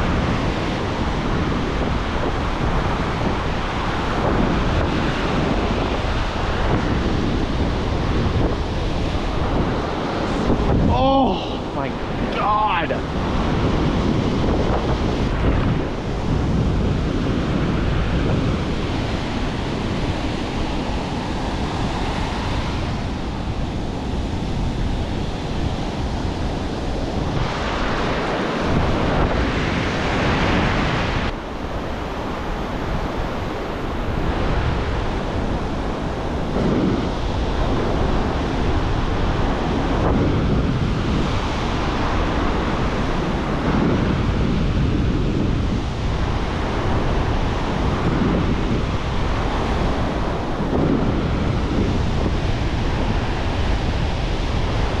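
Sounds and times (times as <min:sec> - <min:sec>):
ocean surf breaking on sand: 0:00.0 - 0:55.0
wind buffeting microphone: 0:00.0 - 0:55.0.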